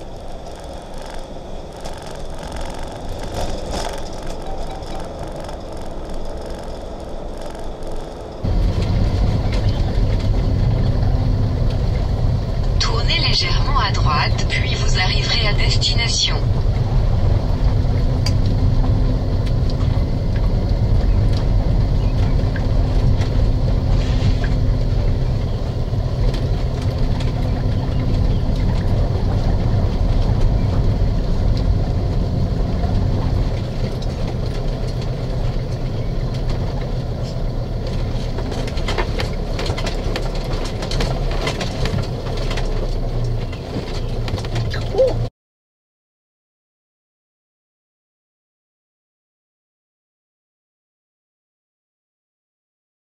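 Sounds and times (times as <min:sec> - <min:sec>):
crackles and clicks: 0:00.0 - 0:45.1
engine droning while driving: 0:00.0 - 0:45.3.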